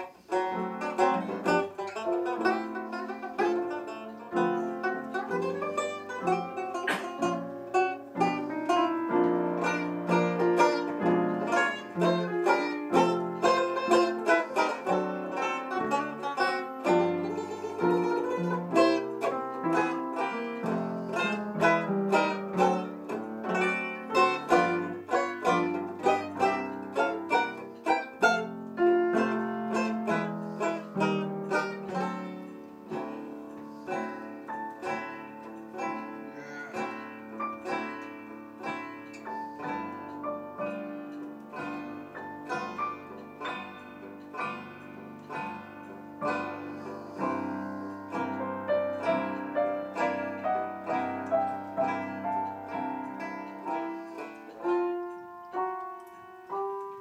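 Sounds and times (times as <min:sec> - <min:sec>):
banjo strumming chords: 0:00.0 - 0:57.0
piano accompaniment: 0:00.0 - 0:57.0.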